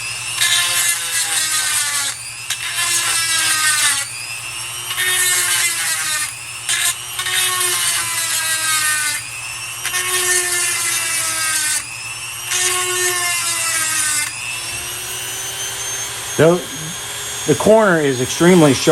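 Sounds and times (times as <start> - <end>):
grinding stone rasping on chain: 0.0 - 15.5
small motor whining: 0.0 - 18.9.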